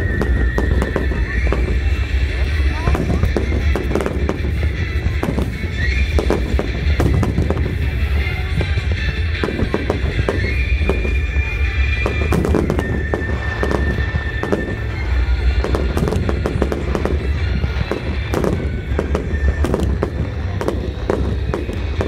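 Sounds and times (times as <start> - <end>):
fireworks bursting: 0.0 - 22.0
music playing: 0.0 - 22.0.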